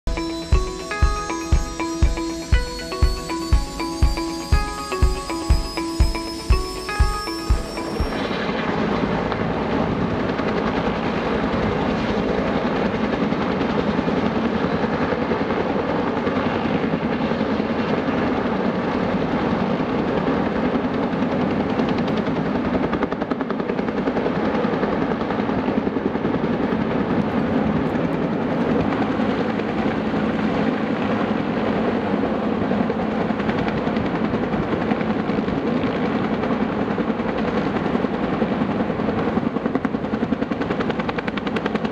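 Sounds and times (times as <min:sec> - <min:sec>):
helicopter rotor beating: 0:00.1 - 0:41.9.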